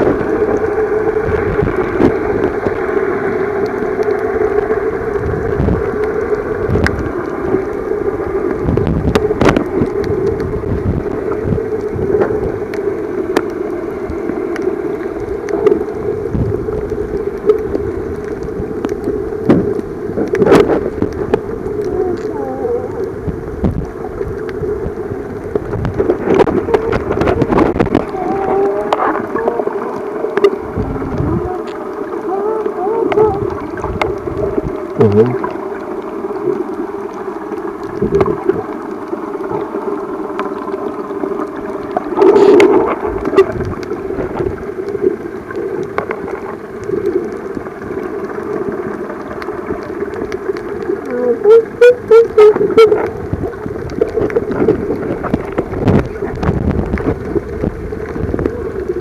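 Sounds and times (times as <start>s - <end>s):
underwater low drone: 0.0s - 59.0s.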